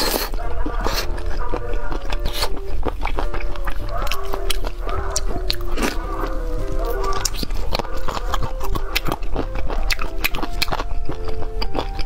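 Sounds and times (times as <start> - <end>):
background music: 0.0 - 12.0
wet chewing and sucking: 0.0 - 12.0.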